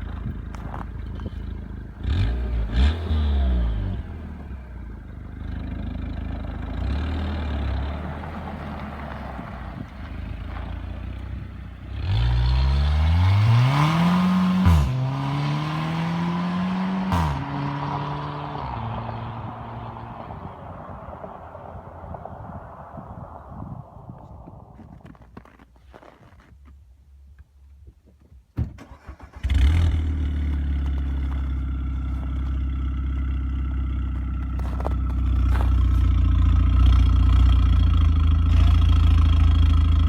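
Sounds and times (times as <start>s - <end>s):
car engine idling and revving: 0.0s - 25.6s, 28.9s - 40.0s
exhaust cracks: 0.0s - 26.7s, 28.7s - 40.0s.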